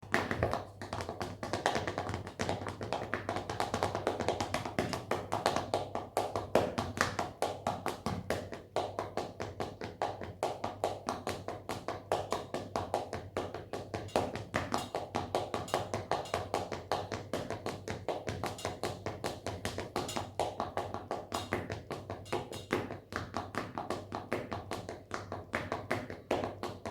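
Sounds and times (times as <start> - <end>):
foot tapping: 0.0 - 26.9.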